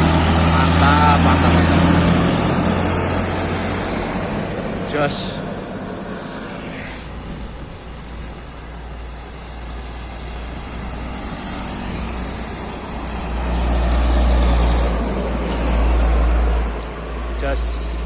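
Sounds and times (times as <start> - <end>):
heavy trucks passing: 0.0 - 18.0.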